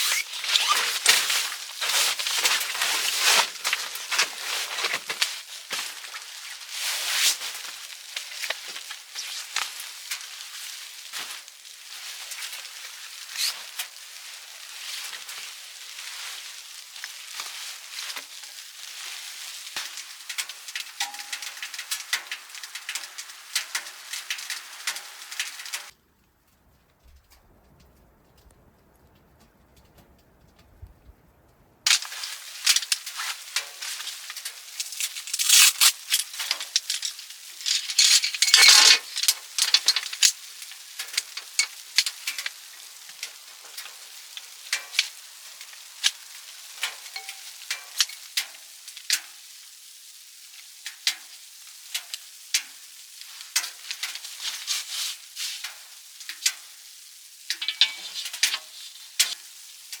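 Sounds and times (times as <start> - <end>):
food sizzling in a pan: 0.0 - 25.9, 31.9 - 60.0.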